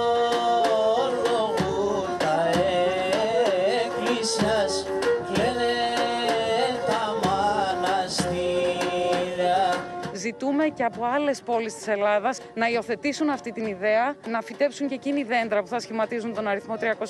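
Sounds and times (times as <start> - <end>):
ornamented sung melody: 0.0 - 17.0.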